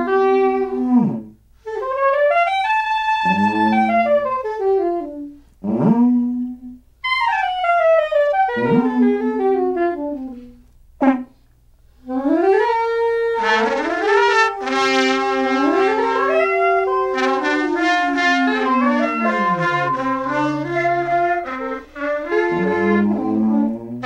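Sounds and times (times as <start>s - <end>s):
brass horn: 0.0s - 11.4s, 12.0s - 24.0s
clarinet: 0.0s - 11.4s, 12.0s - 24.0s
trumpet: 0.0s - 11.4s, 12.0s - 24.0s.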